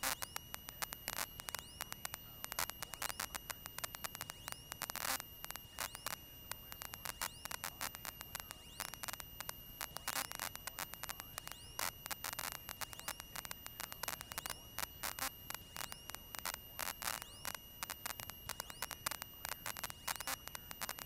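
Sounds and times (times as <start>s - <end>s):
crackling clicks: 0.0s - 21.0s
high-pitched whine: 0.0s - 21.0s
low radio hiss: 0.0s - 21.0s.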